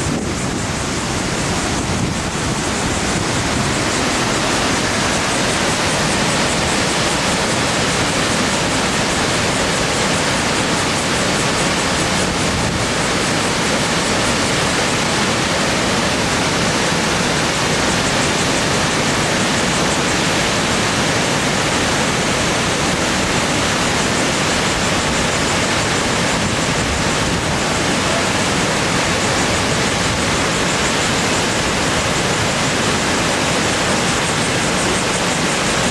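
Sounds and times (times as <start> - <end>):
waterfall roaring: 0.0 - 35.9.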